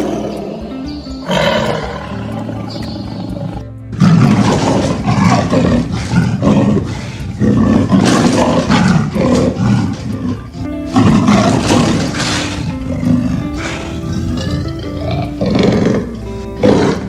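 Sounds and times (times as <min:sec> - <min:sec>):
background music: 0:00.0 - 0:17.0
big cat roaring and growling: 0:00.0 - 0:17.0.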